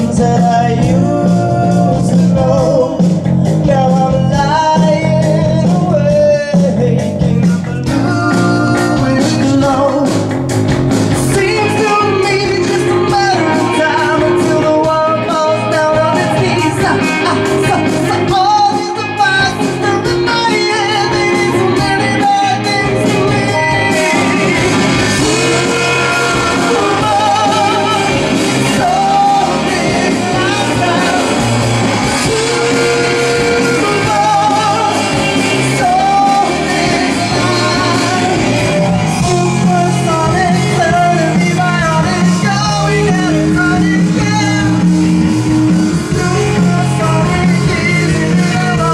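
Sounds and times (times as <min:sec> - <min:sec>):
bass guitar: 0:00.0 - 0:48.9
drum kit: 0:00.0 - 0:48.9
electric guitar: 0:00.0 - 0:48.9
keyboard: 0:00.0 - 0:48.9
man singing lead: 0:00.0 - 0:48.9.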